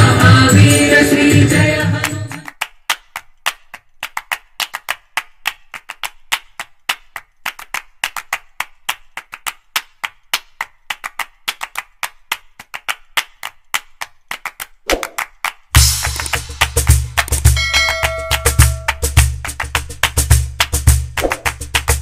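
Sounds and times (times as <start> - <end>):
sharp claps: 2.0 - 22.0.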